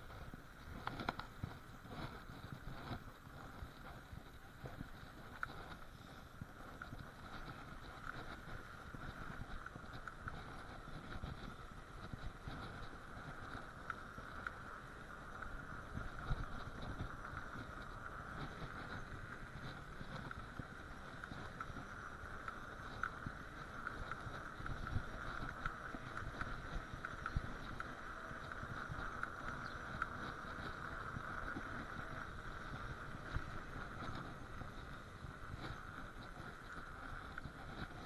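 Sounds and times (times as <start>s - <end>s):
bicycle tyres rumbling on snow: 0.0s - 38.0s
steady high hum: 0.0s - 38.0s.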